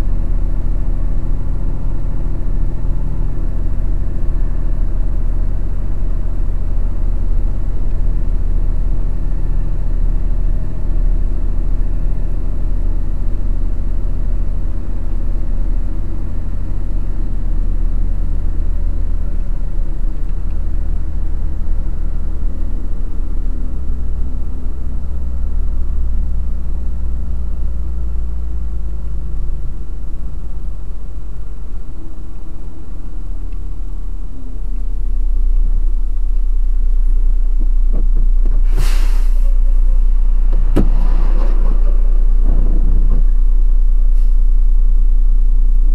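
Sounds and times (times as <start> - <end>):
truck engine droning: 0.0 - 45.9.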